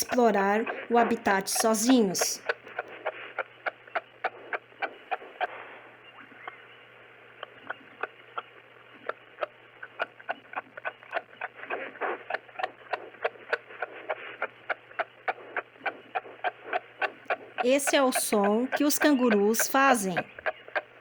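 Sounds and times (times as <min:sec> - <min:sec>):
kangaroo clucking clicks: 0:00.0 - 0:06.7, 0:07.4 - 0:21.0.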